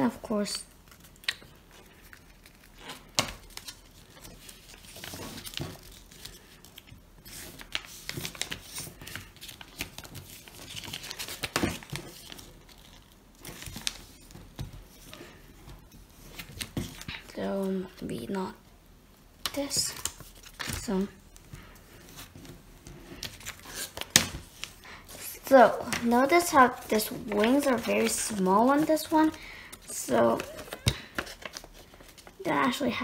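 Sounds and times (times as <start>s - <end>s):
paper being folded and creased: 0.8s - 18.0s, 19.4s - 33.0s.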